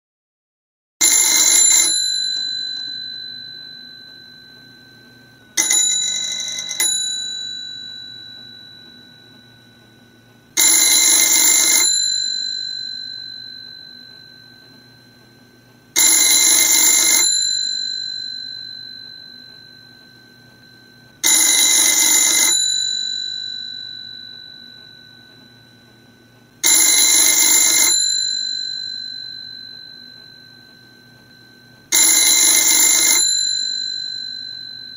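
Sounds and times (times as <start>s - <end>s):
telephone bells ringing: 1.0s - 34.9s.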